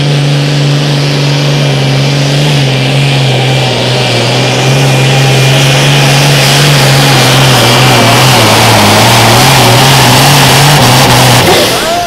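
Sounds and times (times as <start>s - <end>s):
tractor diesel engine at full throttle: 0.0s - 12.0s.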